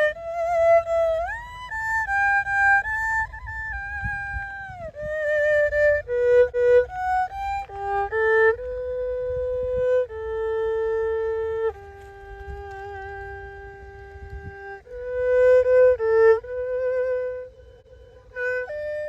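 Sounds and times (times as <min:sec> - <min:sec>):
bowed string instrument melody: 0:00.0 - 0:19.0.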